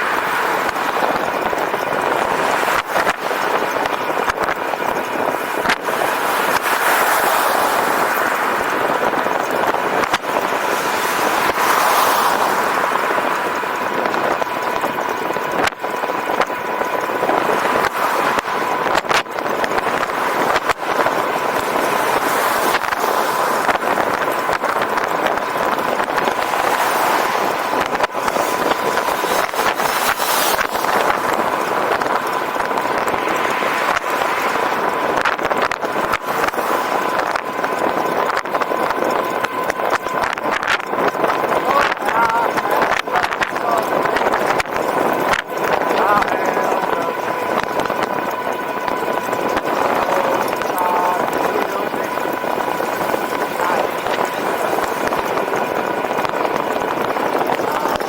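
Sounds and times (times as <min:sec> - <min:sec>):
thin steady whine: 0:00.0 - 0:58.0
wind and road rush: 0:00.0 - 0:58.0.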